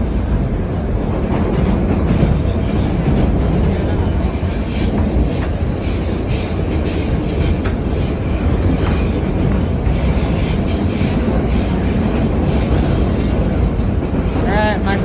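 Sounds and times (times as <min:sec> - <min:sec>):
subway train rumble: 0:00.0 - 0:15.0
wheels clicking on rails: 0:00.0 - 0:15.0.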